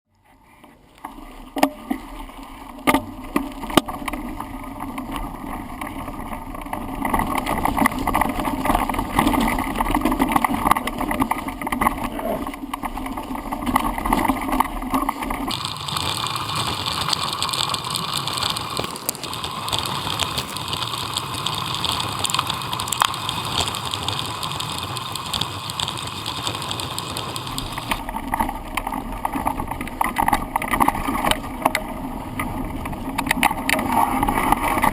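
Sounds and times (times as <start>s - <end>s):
bicycle tyres and rattling: 0.4s - 34.9s.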